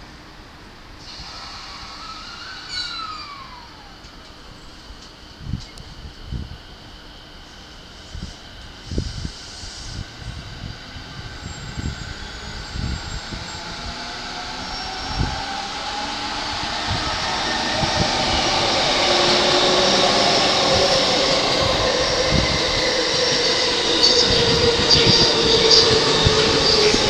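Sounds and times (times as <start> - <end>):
electric train motor whine: 1.0 - 27.0.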